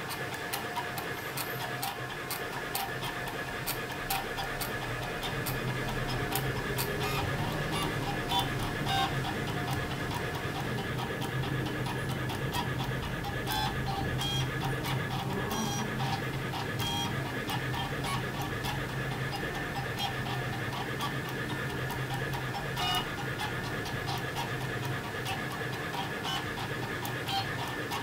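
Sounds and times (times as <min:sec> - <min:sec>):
marker head ticking and clicking: 0:00.0 - 0:28.0
printer motors humming and whining: 0:00.0 - 0:28.0.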